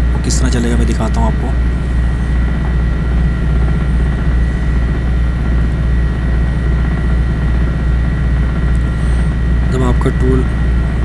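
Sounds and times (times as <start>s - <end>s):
low hum and drone: 0.0s - 11.0s.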